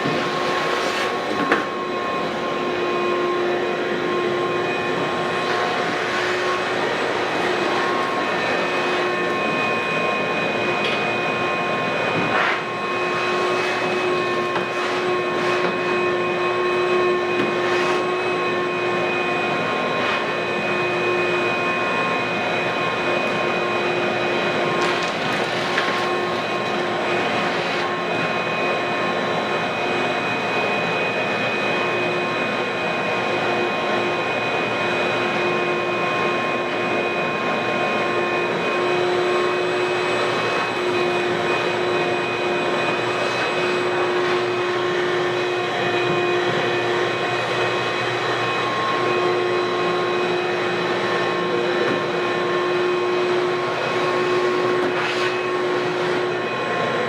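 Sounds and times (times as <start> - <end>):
floor-cleaning machine whine: 0.0 - 57.0.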